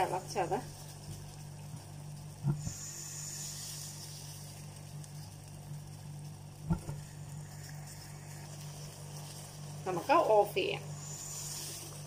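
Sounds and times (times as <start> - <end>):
low hum: 0.0 - 12.0
water bubbling at a rolling boil: 0.0 - 12.0.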